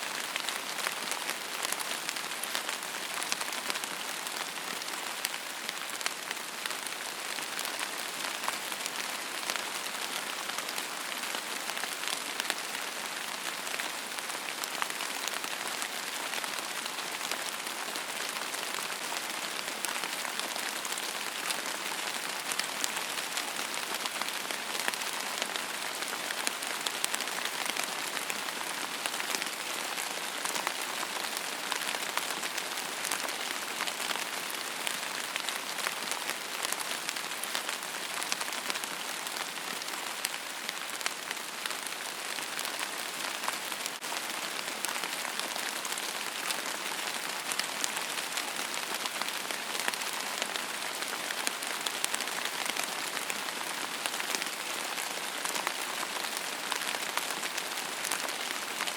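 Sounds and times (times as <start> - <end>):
rain on a hard surface: 0.0 - 58.9.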